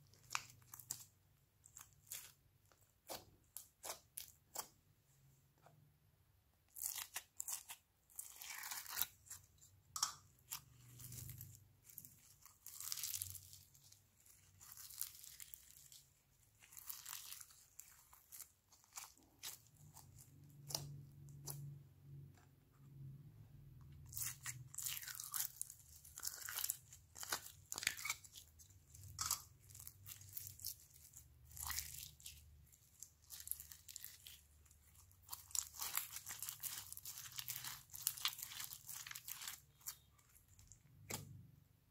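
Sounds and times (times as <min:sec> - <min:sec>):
foam slime crackling and squishing: 0:00.0 - 0:04.8, 0:06.6 - 0:21.8, 0:23.9 - 0:41.4.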